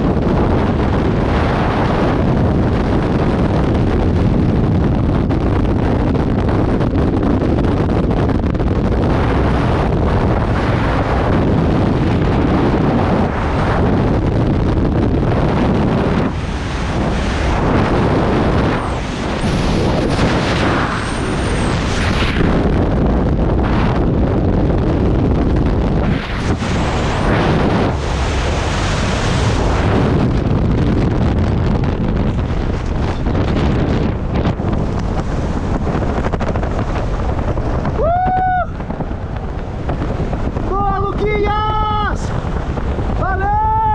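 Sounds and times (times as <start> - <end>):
loud wind on microphone: 0.0 - 43.9.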